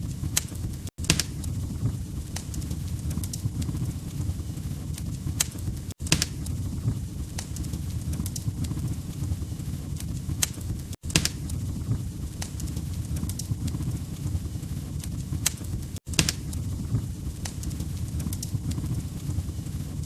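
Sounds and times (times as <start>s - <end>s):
fire crackles and pops: 0.0s - 20.0s
fire low rumble: 0.0s - 20.0s.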